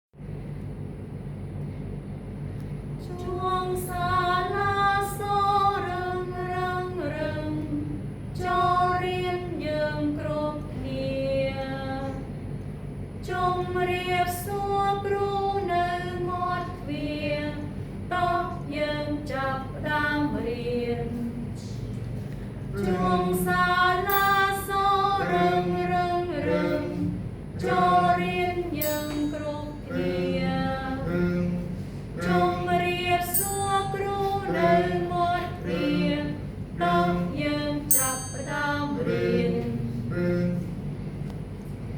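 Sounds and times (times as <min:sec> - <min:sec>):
people singing a children's song: 0:03.0 - 0:12.3, 0:13.2 - 0:21.9, 0:22.7 - 0:40.8.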